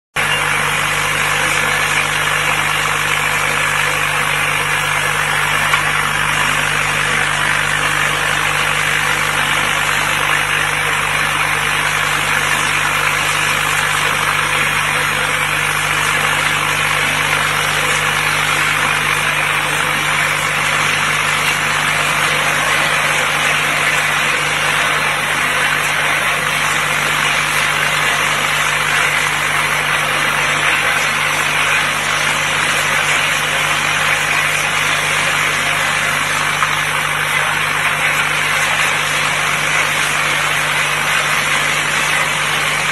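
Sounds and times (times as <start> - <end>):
machine hum: 0.2 - 42.9.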